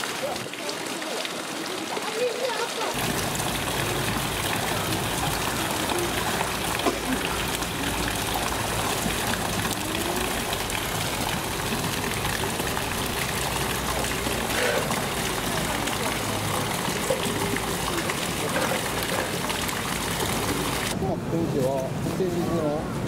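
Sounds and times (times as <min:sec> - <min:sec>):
water rushing into a pool: 0:00.0 - 0:21.0
faint voices: 0:03.7 - 0:23.0.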